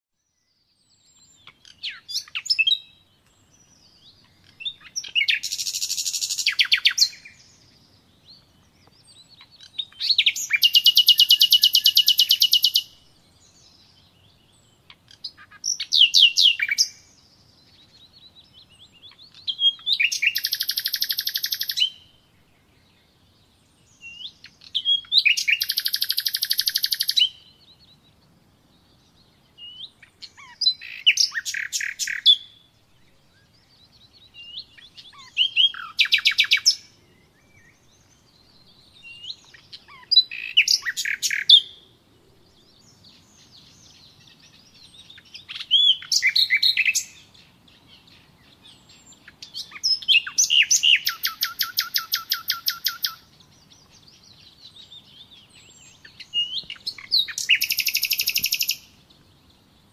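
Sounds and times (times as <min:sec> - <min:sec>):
songbird singing with fast trills: 0:00.2 - 0:59.9.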